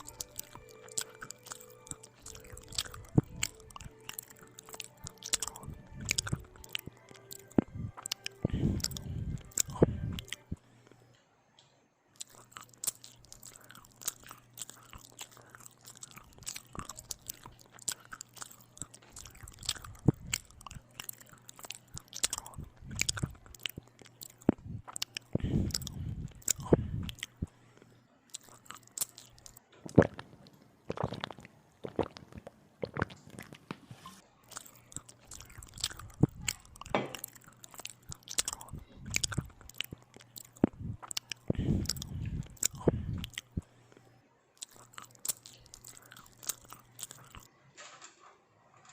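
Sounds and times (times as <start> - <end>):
wet mouth sounds: 0.0 - 10.6, 12.2 - 27.6, 28.3 - 33.8, 34.5 - 43.7, 44.6 - 47.5
chewing and biting sandwich: 0.0 - 11.0, 12.2 - 33.8, 34.4 - 43.7, 44.6 - 47.5.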